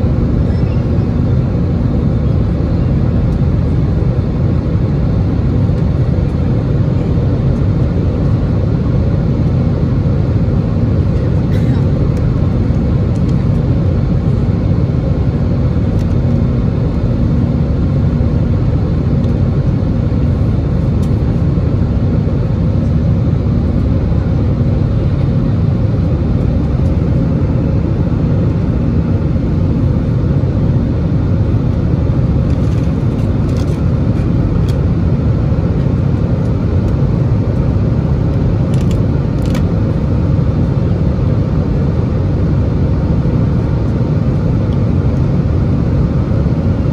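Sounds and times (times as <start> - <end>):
aircraft engines rumbling: 0.0 - 46.9.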